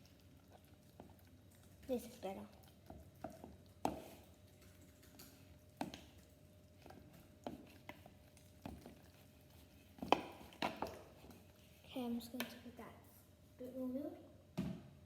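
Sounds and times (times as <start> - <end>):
spoon stirring thick batter: 0.0 - 12.6.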